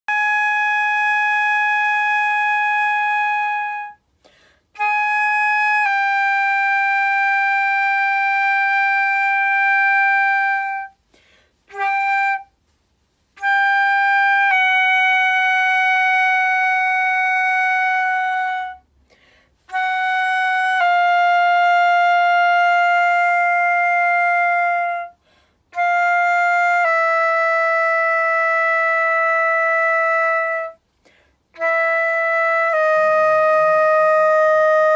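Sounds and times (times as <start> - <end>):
flute playing long tones: 0.1 - 18.9, 19.5 - 34.9.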